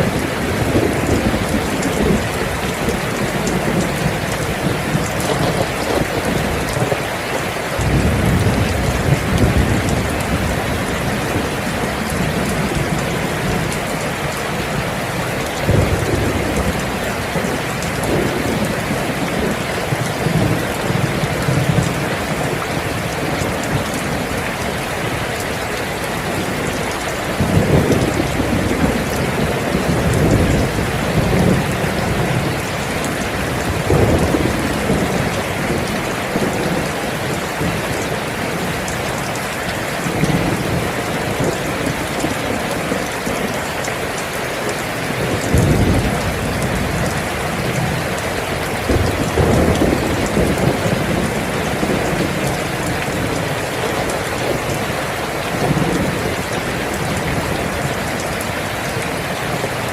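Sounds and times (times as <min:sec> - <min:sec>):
low thunder rumbles: 0:00.0 - 0:43.6, 0:45.0 - 0:59.9
heavy rain: 0:00.0 - 0:59.9.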